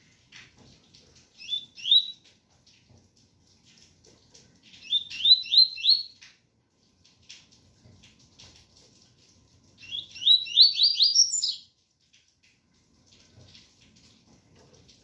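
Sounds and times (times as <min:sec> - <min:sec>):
faint rain: 0:00.0 - 0:15.0.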